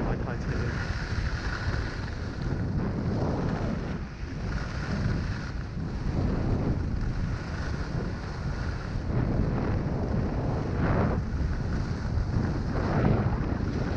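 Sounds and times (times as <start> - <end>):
wind buffeting microphone: 0.0 - 13.9
ski edges scraping snow: 0.4 - 13.9.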